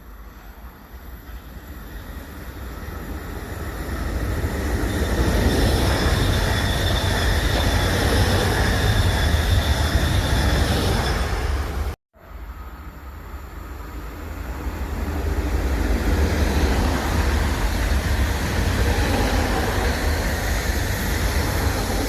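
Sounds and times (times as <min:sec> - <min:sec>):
high train whine: 0:00.0 - 0:22.0
train rumbling past: 0:00.0 - 0:22.0.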